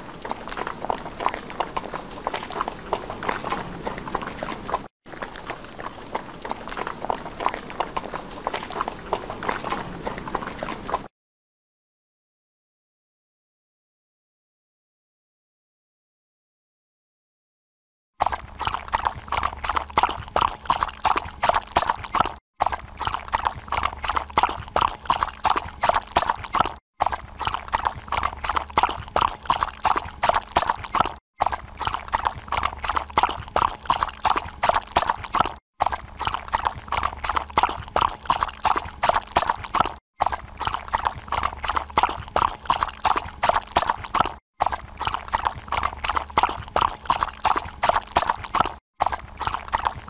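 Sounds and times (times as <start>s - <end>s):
horse hoofbeats at a run: 0.0s - 11.1s, 18.2s - 50.0s.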